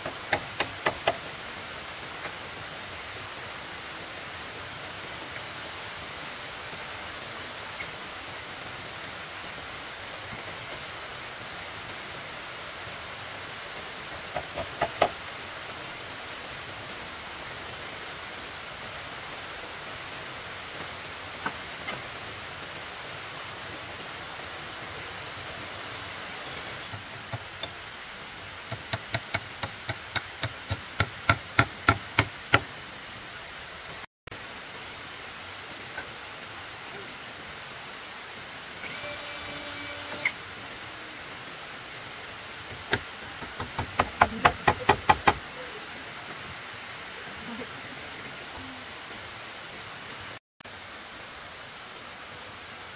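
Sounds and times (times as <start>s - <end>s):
steady background hiss: 0.0s - 52.9s.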